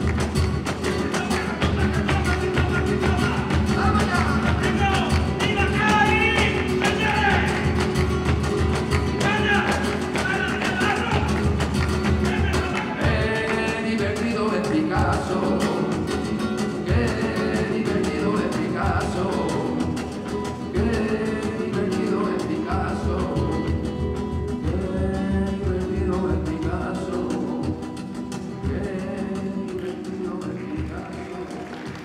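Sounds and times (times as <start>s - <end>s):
cajon beat: 0.0s - 32.0s
flamenco guitar: 0.0s - 32.0s
man singing: 0.8s - 8.0s, 9.1s - 32.0s.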